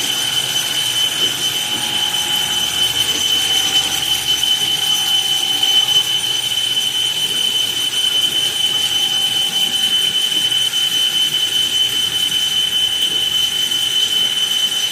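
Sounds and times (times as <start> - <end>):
drill bit cutting steel whine: 0.0 - 14.9
machine tool running: 0.0 - 14.9.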